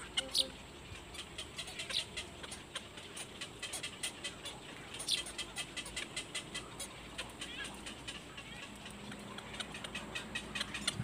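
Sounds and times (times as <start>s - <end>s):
heron chick ticking calls: 0.0s - 11.0s.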